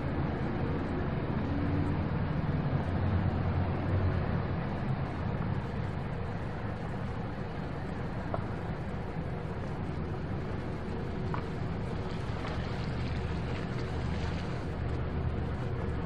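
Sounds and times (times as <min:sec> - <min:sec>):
car driving slowly: 0:00.0 - 0:16.0.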